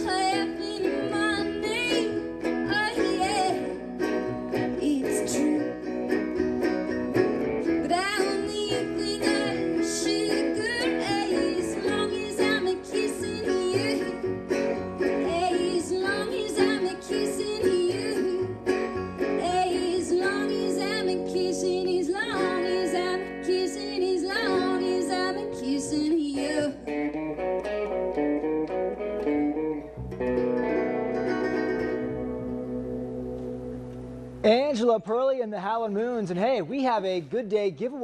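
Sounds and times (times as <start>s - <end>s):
upright double bass: 0.0s - 23.0s, 27.0s - 34.6s
electric guitar: 0.0s - 34.4s
resonator guitar: 0.0s - 36.4s.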